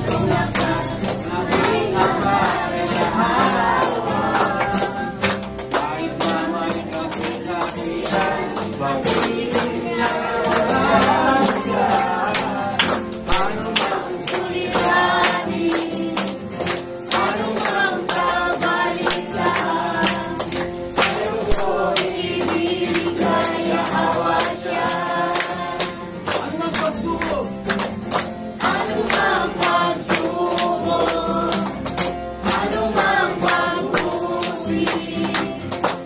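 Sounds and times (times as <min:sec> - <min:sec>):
congregation singing praise song: 0:00.0 - 0:36.0
hands clapping in rhythm: 0:00.0 - 0:36.0.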